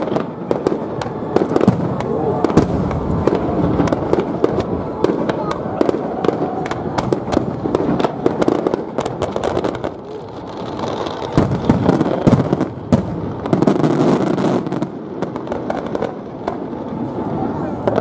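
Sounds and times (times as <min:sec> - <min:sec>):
fireworks booming: 0:00.0 - 0:18.0
fireworks popping: 0:00.0 - 0:18.0.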